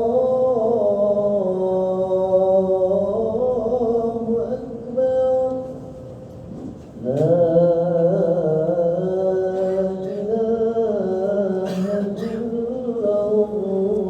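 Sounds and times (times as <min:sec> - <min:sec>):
man chanting call to prayer: 0:00.0 - 0:06.2, 0:07.0 - 0:14.0.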